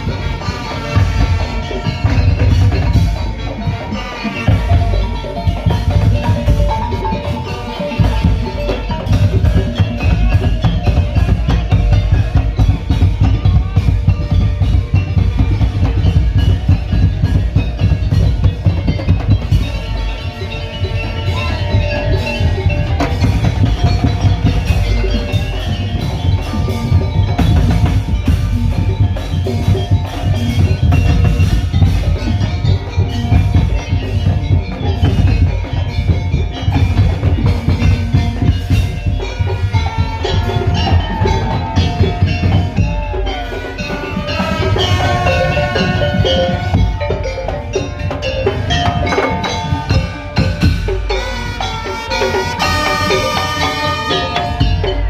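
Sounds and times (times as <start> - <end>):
percussion ensemble drumming: 0.0 - 55.0.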